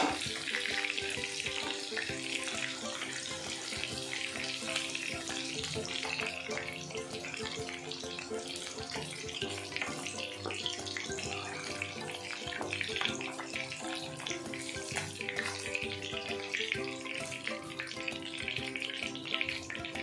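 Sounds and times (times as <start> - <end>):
background music: 0.0 - 20.0
oil bubbling and sizzling: 0.0 - 20.0.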